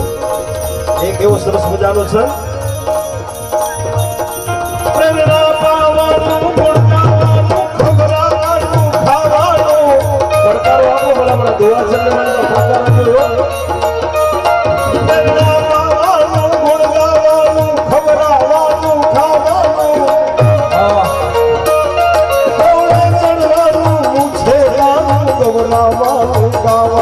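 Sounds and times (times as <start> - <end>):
harmonium melody: 0.0 - 27.0
tabla and dholak drumming: 0.0 - 27.0.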